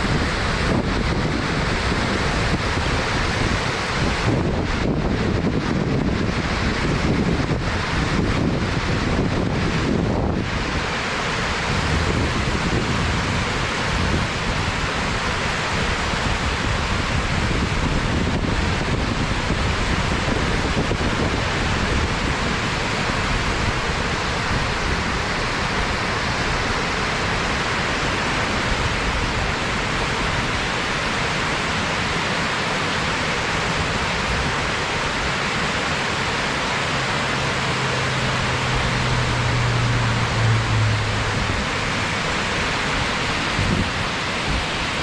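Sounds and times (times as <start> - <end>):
waterfall roaring: 0.0 - 45.0.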